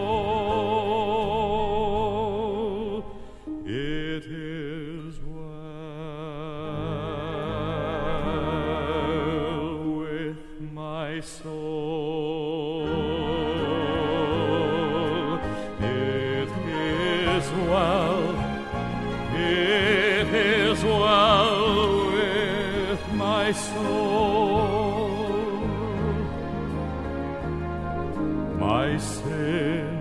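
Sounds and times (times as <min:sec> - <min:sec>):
slow orchestral hymn music: 0:00.0 - 0:30.0.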